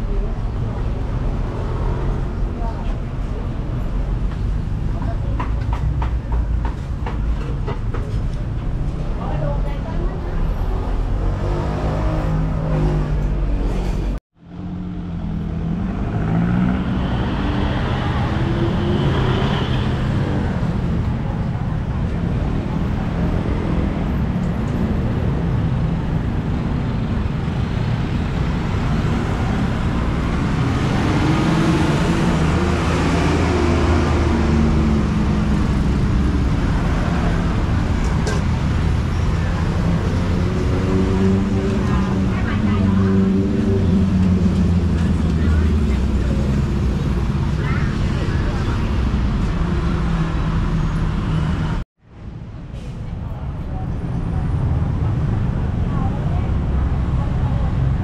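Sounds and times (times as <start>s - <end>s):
vehicle engines passing: 0.0s - 58.0s.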